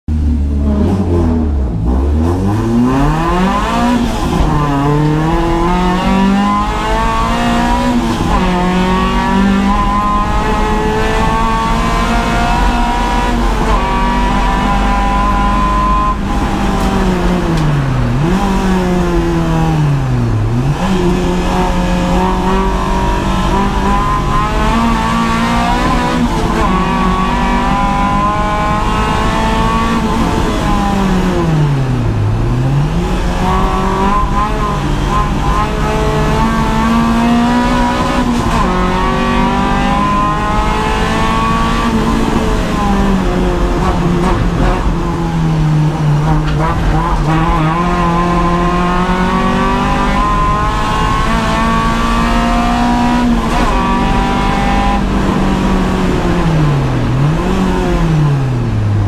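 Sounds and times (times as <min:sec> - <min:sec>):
car engine revving through gears: 0:00.1 - 0:59.0.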